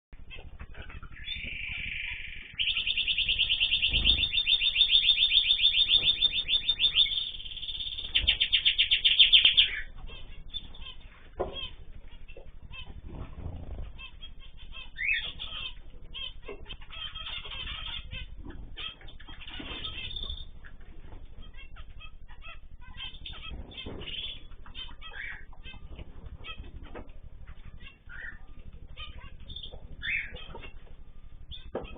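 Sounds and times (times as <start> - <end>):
bird chirps and clicks: 0.2 - 31.9
bird trill: 0.2 - 31.9.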